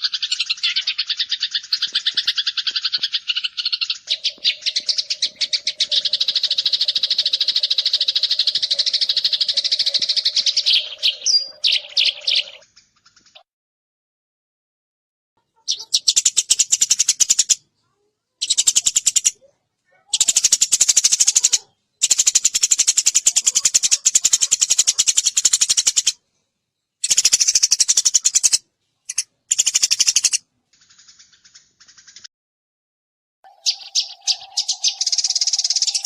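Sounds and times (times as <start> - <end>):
sparrows chirping: 0.0 - 13.4, 15.4 - 32.3, 33.5 - 36.0.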